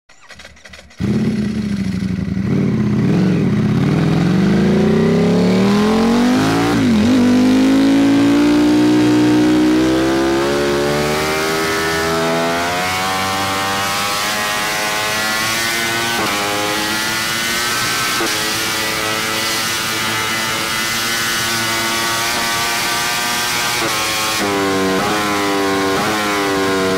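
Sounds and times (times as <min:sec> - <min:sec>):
motorcycle engine accelerating: 0:00.2 - 0:26.9.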